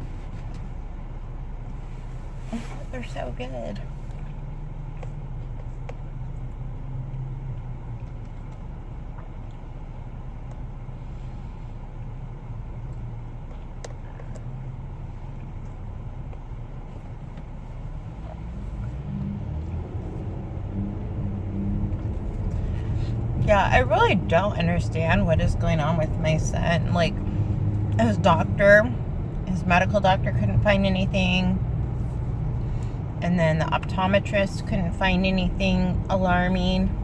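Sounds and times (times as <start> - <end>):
road and engine rumble in car: 0.0 - 37.0.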